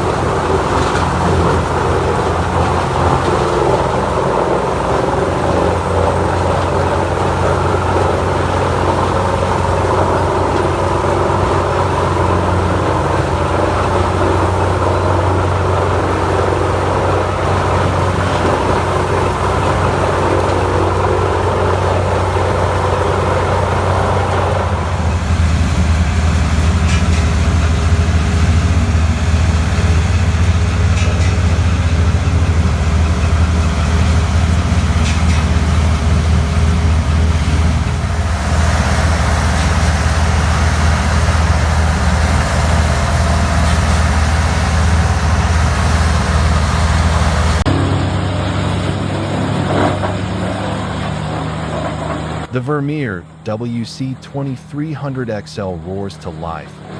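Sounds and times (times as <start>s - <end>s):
wood chipper engine hum: 0.0s - 52.5s
wood chipper grinding: 0.0s - 52.5s.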